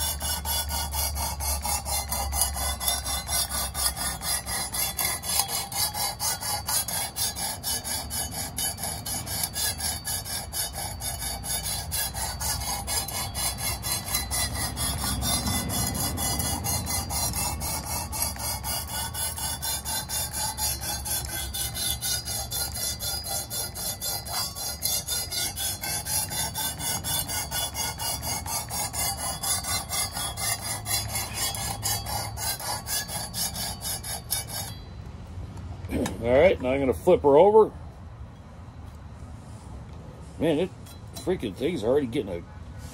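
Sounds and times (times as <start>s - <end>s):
stone rasping on knife edge: 0.0s - 34.9s.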